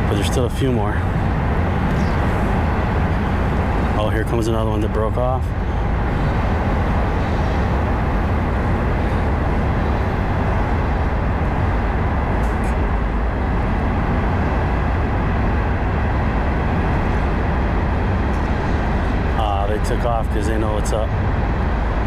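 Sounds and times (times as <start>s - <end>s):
road traffic roar: 0.0s - 22.0s.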